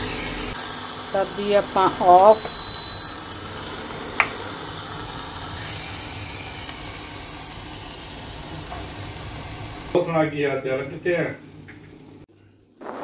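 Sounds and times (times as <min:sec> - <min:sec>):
food sizzling in a pan: 0:00.0 - 0:10.0, 0:11.2 - 0:13.0.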